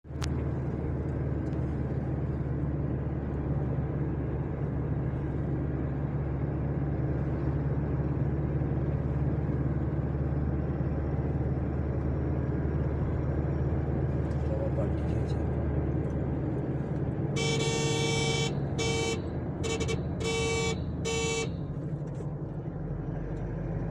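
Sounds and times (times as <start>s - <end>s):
road noise: 0.0s - 23.9s
vehicle engine hum: 0.0s - 23.9s.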